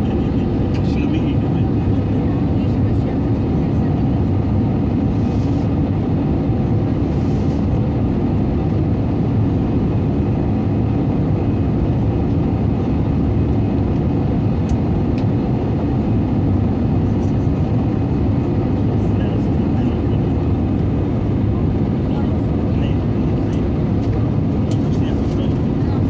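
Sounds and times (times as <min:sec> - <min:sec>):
jet engines and airflow rumble: 0:00.0 - 0:26.0.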